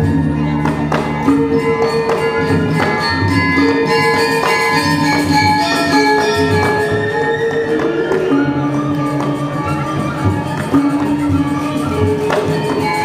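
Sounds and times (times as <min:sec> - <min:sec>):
gamelan playing: 0:00.0 - 0:13.0.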